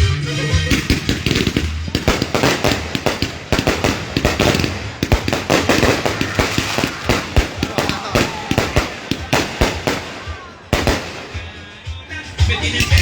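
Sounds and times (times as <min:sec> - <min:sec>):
fireworks bangs and pops: 0:00.5 - 0:13.0.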